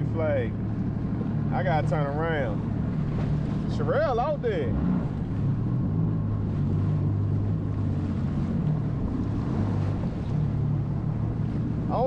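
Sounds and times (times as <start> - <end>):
jet ski engine humming: 0.0 - 12.0
sea water: 0.0 - 12.0.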